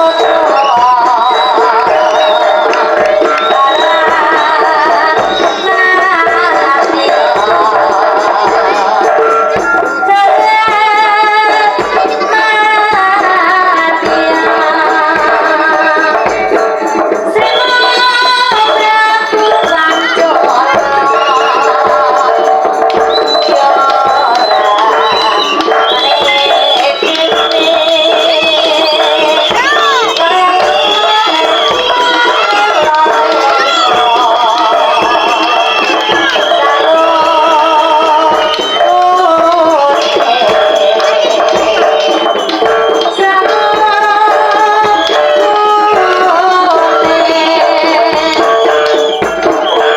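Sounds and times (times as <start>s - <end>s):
steady rattling percussion: 0.0s - 49.9s.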